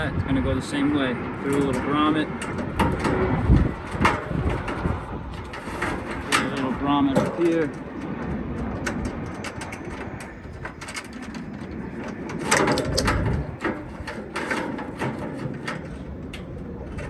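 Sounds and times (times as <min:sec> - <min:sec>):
wire rustling and scraping: 0:00.0 - 0:17.0.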